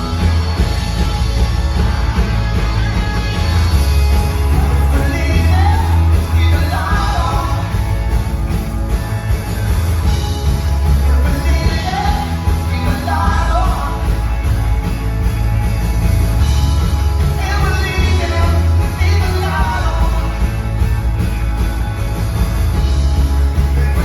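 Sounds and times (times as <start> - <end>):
heavy bass line: 0.0 - 24.0
rock band playing live: 0.0 - 24.0.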